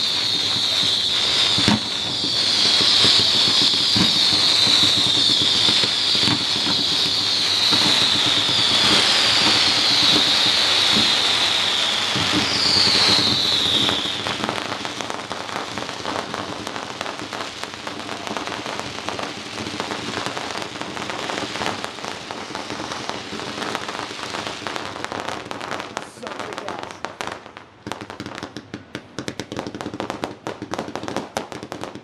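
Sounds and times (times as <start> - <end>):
whistling firework shells: 0.0 - 27.1
fireworks crackling: 0.0 - 32.0.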